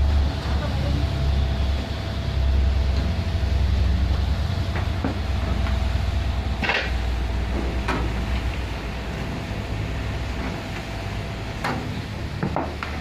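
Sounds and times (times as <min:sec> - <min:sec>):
feed mixer humming: 0:00.0 - 0:13.0.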